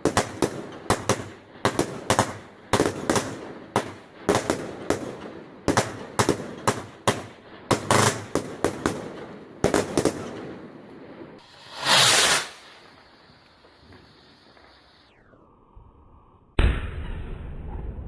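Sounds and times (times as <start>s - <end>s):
hissing firework burst: 0.0s - 10.6s, 11.3s - 15.4s
fireworks banging: 0.0s - 15.1s.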